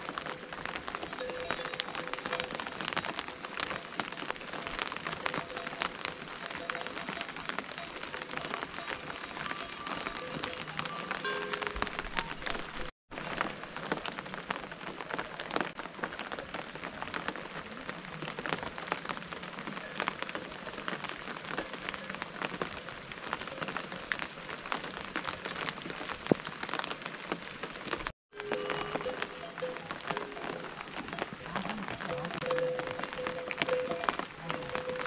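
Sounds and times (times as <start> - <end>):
rain falling on grass and leaves: 0.0 - 35.0.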